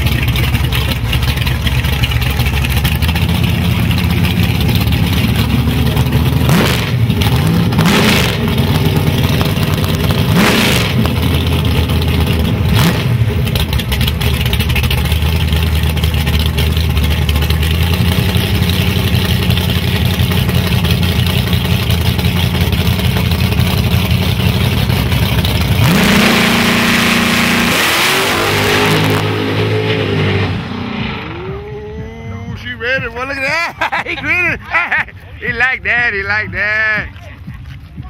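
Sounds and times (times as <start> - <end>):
drag car engine revving: 0.0 - 36.5.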